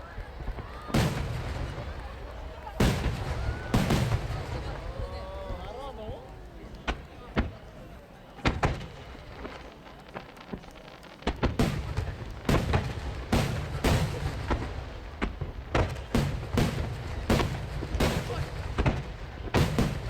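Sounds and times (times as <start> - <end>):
fireworks bursting with sharp cracks: 0.0 - 20.0.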